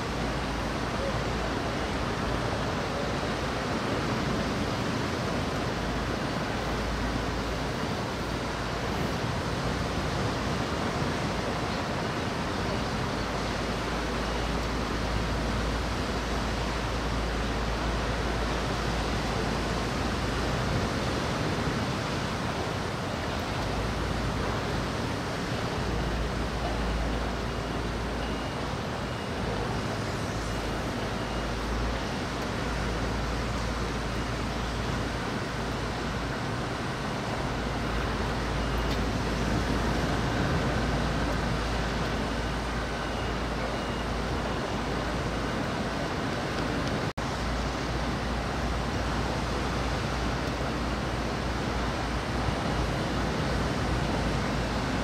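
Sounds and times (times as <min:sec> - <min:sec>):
wind and rain: 0:00.0 - 0:55.0.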